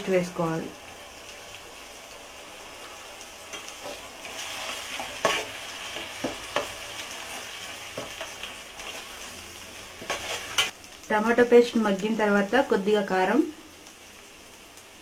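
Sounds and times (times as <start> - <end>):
masala sizzling in a pot: 0.0 - 15.0.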